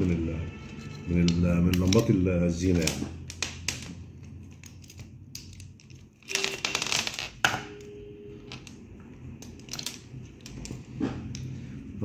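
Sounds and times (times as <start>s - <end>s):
decoration lights rustling: 0.0s - 12.0s.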